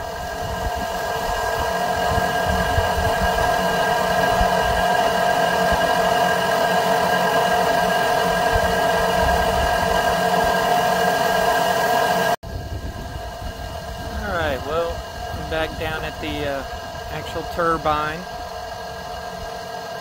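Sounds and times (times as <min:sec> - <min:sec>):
hydro turbine humming: 0:00.0 - 0:20.0.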